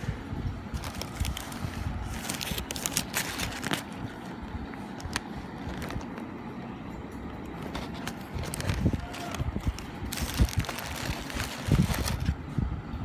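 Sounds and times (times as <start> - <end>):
steady low rumble: 0.0 - 13.0
paper bag and carton rustling: 0.7 - 6.3, 7.4 - 12.4.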